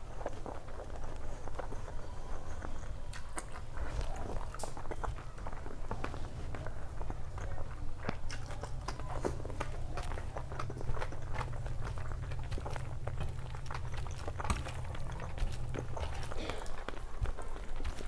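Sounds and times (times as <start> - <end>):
chewing and wet mouth sounds: 0.0 - 18.0
steady low hum: 0.0 - 18.0.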